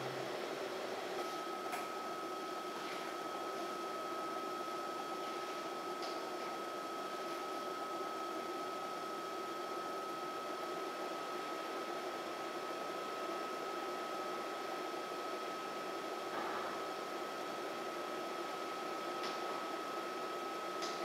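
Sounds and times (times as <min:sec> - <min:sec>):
computer fan whir: 0:00.0 - 0:21.0.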